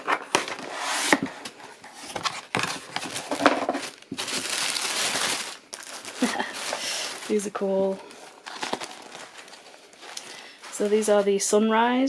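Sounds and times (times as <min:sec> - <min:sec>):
paper packaging crinkling: 0:00.0 - 0:11.6.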